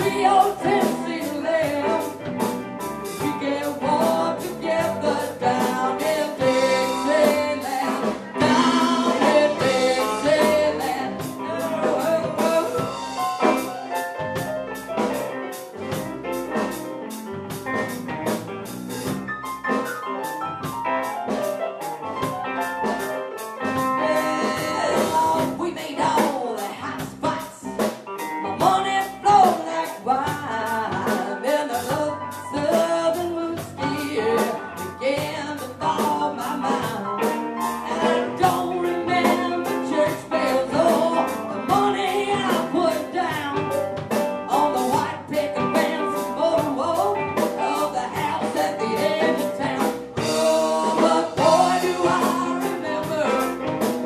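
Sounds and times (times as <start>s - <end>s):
person singing: 0.0s - 2.5s, 3.1s - 13.8s, 23.7s - 54.0s
drum kit beat: 0.0s - 54.0s
live blues-rock band: 0.0s - 54.0s.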